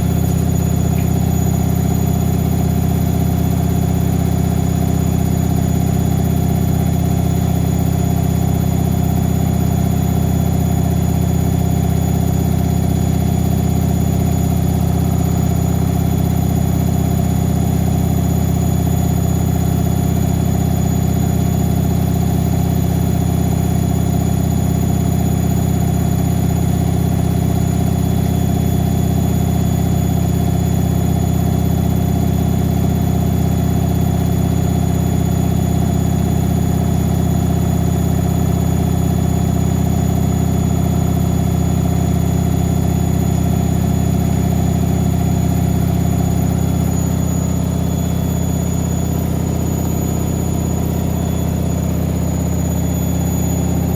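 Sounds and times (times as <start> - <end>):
washing machine motor hum: 0.0 - 53.9.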